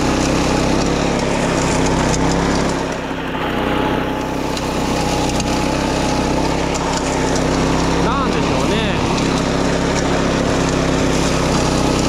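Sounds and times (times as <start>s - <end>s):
lawn mower engine running: 0.0s - 12.0s
mower blades cutting grass: 0.0s - 12.0s.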